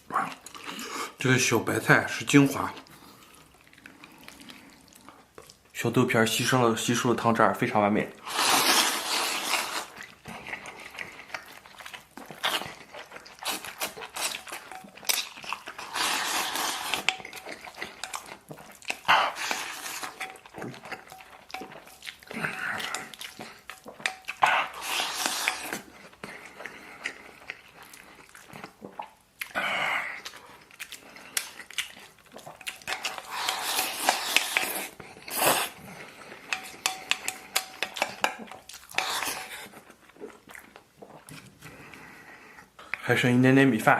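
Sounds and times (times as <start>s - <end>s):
man chewing food: 0.0s - 1.2s, 1.8s - 5.8s, 8.1s - 43.0s.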